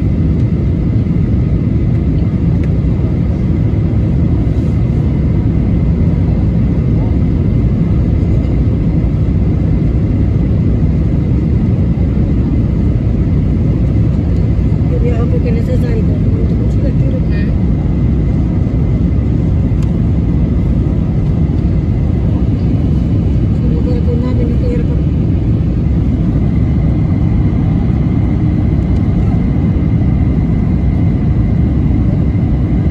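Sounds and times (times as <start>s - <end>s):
airliner cabin engine rumble: 0.0s - 32.9s.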